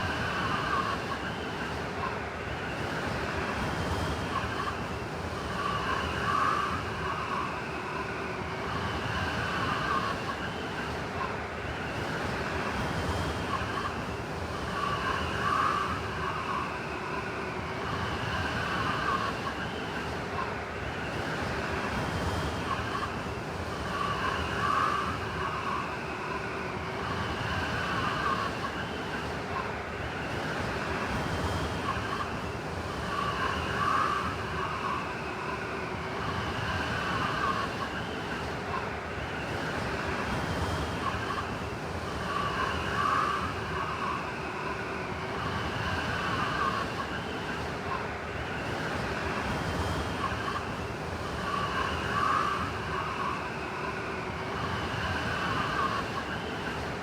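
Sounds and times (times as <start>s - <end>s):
howling blizzard wind: 0.0s - 57.0s.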